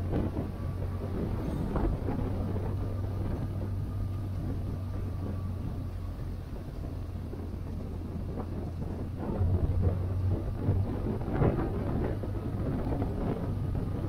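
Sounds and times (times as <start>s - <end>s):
motorcycle engine cruising: 0.0s - 14.0s
wind on microphone: 0.0s - 14.0s.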